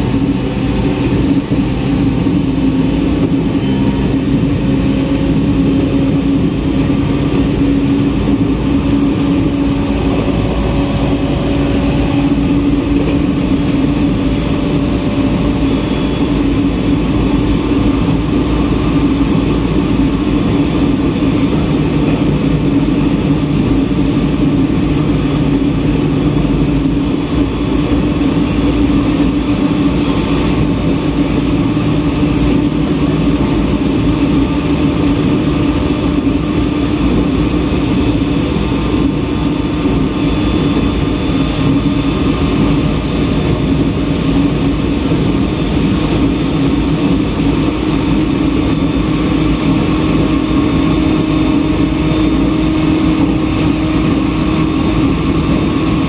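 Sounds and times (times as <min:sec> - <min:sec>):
train motors humming: 0:00.0 - 0:56.0
train wheels on rail: 0:00.0 - 0:56.0.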